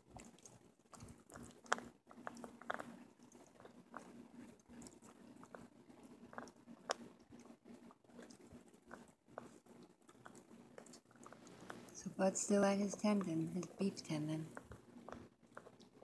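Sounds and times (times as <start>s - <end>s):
dog chewing crunches: 0.0s - 12.0s, 14.4s - 16.0s.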